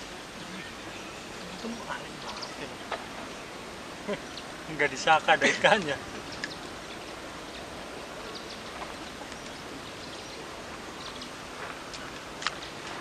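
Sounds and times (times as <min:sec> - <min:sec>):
outdoor background noise by water: 0:00.0 - 0:13.0.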